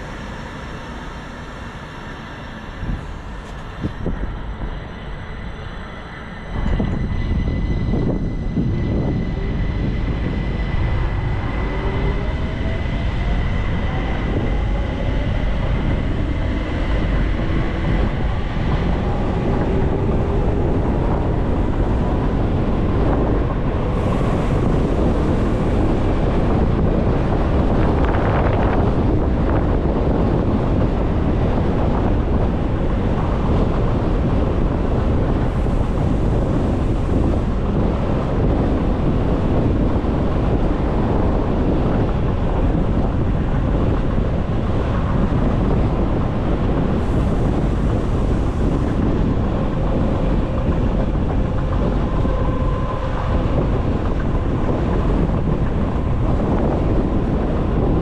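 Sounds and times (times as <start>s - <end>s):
electric train motor whine: 0.0s - 58.0s
train running rumble: 0.0s - 58.0s
wind noise: 0.0s - 58.0s.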